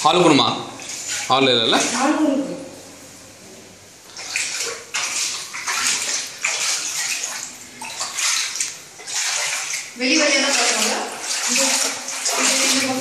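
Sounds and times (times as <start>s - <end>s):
feet wading through water: 0.6s - 2.4s, 4.0s - 13.0s.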